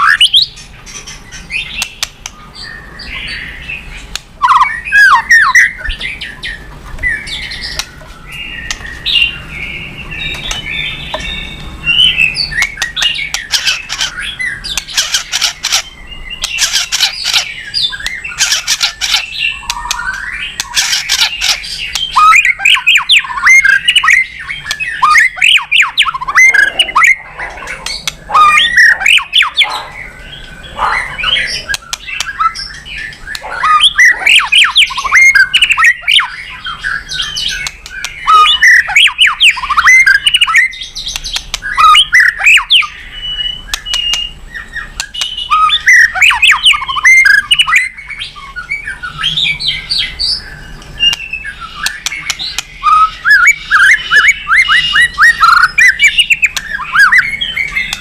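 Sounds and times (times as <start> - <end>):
songbird singing varied song: 0.0 - 58.0.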